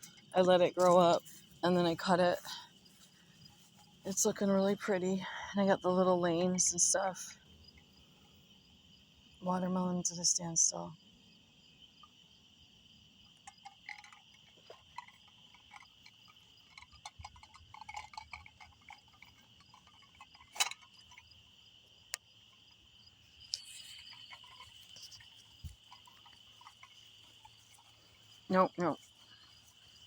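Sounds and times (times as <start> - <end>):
insects and frogs droning: 0.0 - 30.0.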